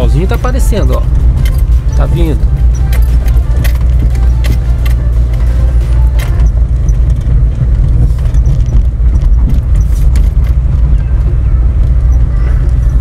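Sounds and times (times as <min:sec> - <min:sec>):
car rattles over bumps: 0:00.0 - 0:13.0
car rumbling on dirt road: 0:00.0 - 0:13.0.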